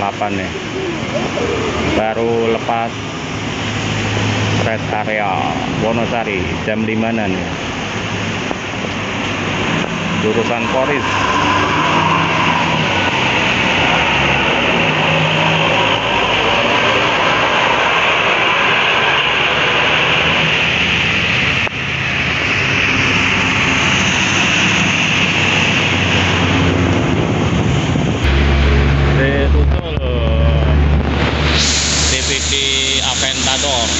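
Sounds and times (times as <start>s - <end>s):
diesel engines humming: 0.0s - 33.9s
tyres hissing on wet road: 0.0s - 33.9s.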